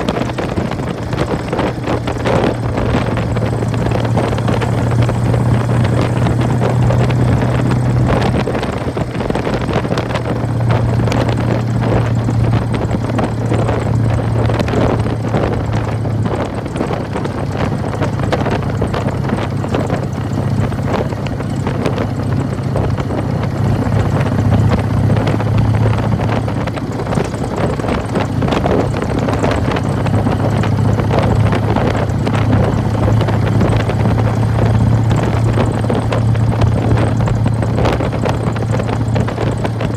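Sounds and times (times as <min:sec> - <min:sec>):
motorcycle engine running: 0:00.0 - 0:39.9
primary drive rattling: 0:00.0 - 0:39.9.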